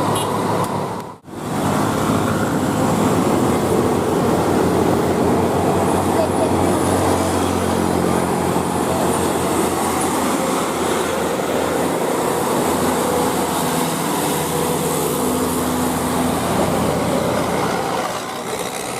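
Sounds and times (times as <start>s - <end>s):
bus diesel engine rumble: 0.0s - 18.9s
road noise: 0.0s - 18.9s.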